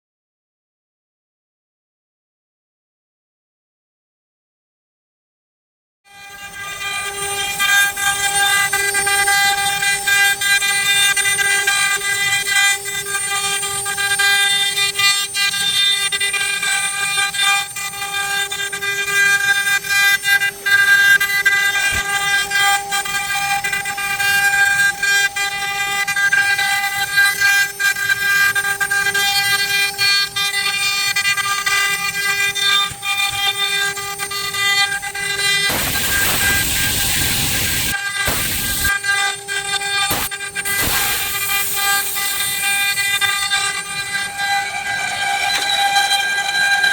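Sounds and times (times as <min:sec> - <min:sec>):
router bits cutting wood: 0:06.2 - 0:46.9
router spindle motors whining: 0:06.2 - 0:46.9.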